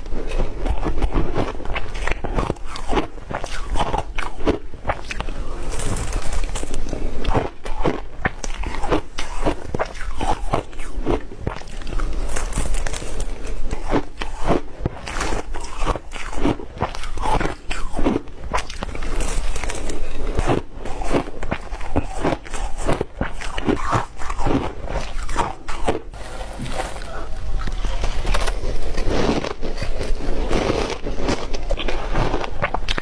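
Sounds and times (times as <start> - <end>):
ice cubes crunching between teeth: 0.2 - 33.0.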